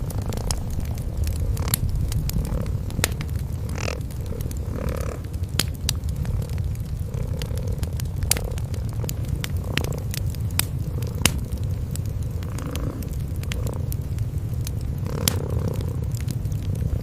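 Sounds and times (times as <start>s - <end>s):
cats purring: 0.0s - 17.0s
wood fire crackling: 0.0s - 17.0s.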